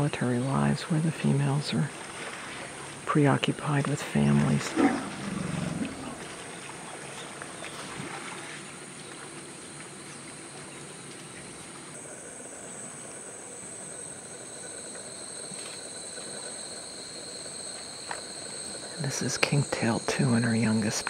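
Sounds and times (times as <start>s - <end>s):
lower insect chorus: 0.0s - 21.0s
insects buzzing high-pitched: 0.2s - 21.0s.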